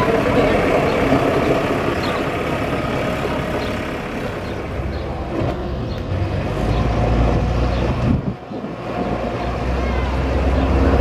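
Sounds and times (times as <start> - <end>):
diesel tractor engines running: 0.0 - 11.0.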